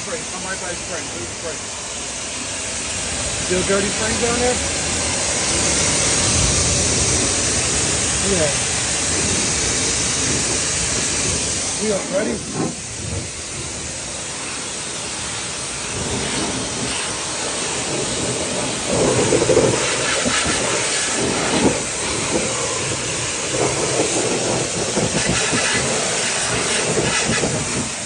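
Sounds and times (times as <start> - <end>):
pressure washer spray hiss: 0.0 - 28.0
water jet splattering on truck: 0.0 - 28.0.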